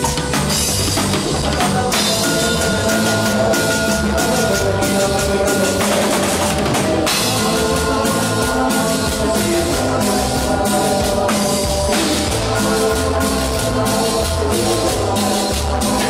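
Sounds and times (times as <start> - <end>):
drum kit beat: 0.0 - 16.0
live band music: 0.0 - 16.0.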